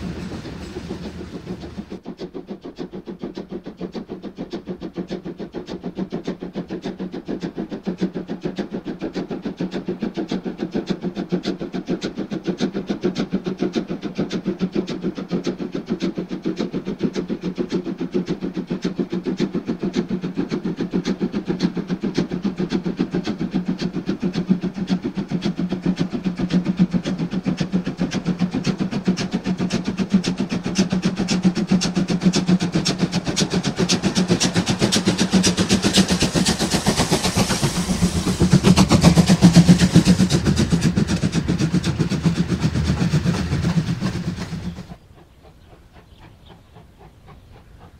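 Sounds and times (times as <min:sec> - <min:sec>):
steam locomotive exhaust beating: 0:00.0 - 0:47.9.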